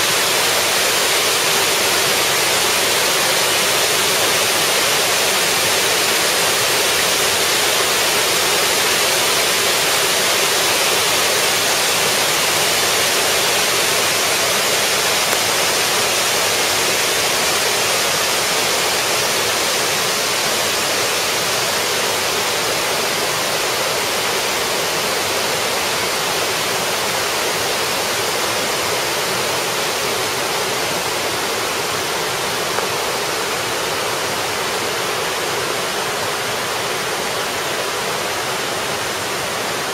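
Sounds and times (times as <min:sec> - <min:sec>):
waterfall rushing onto rock: 0:00.0 - 0:39.9.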